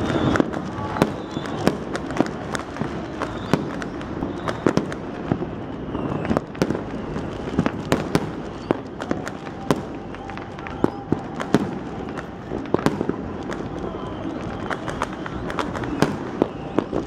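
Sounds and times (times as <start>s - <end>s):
distant fireworks crackling and popping: 0.0s - 17.0s
sharp firecracker bangs: 0.0s - 17.0s.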